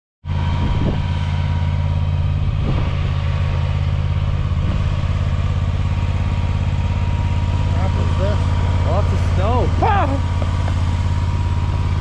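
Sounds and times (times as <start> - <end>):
mower engine running: 0.3 - 12.0.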